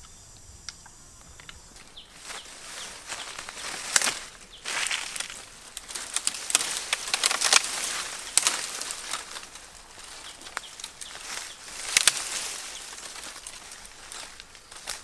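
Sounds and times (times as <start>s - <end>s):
leafy branches rustling: 0.0s - 15.0s
twigs clicking: 0.0s - 15.0s.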